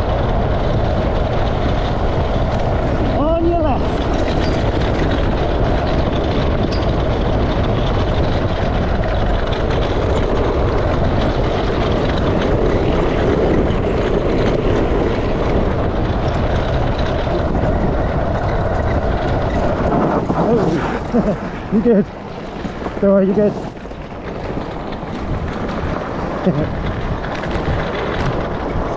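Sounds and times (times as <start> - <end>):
kart frame shaking: 0.0 - 28.9
kart tyres rumbling on gravel: 0.0 - 28.9.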